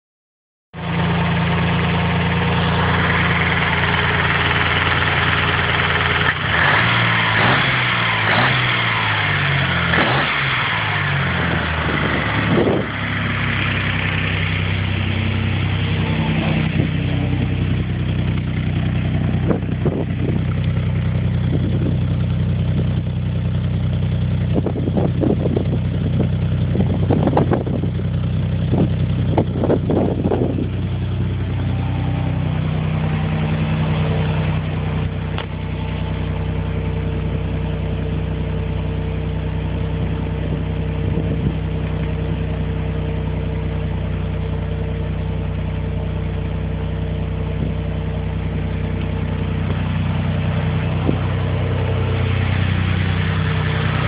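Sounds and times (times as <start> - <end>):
car engine idling and revving: 0.8 - 54.0.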